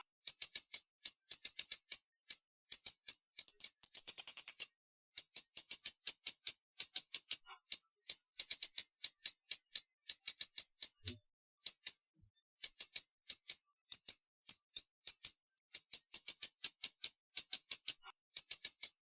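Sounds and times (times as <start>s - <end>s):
hummingbird chip calls: 0.0s - 12.0s, 12.6s - 19.0s.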